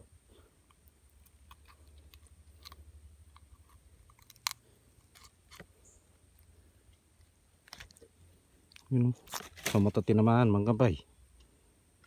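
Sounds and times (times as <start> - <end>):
crunchy handling noises: 0.3 - 10.3.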